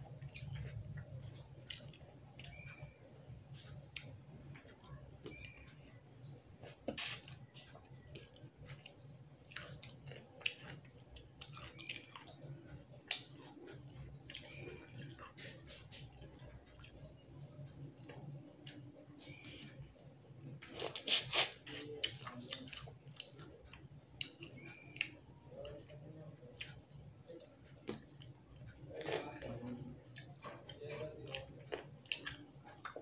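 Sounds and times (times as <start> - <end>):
faint low hum: 0.0 - 33.0
wet chewing with mouth clicks: 0.2 - 3.0, 3.6 - 33.0.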